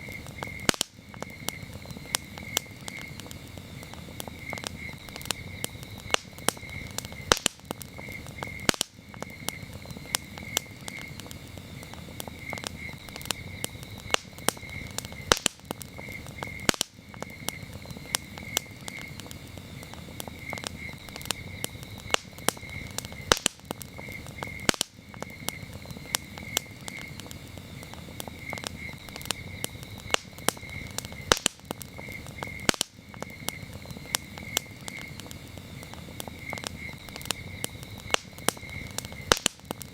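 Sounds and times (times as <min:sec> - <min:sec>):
campfire crackling: 0:00.0 - 0:39.9
crickets chirping: 0:00.0 - 0:39.9
wood pops: 0:00.1 - 0:39.9.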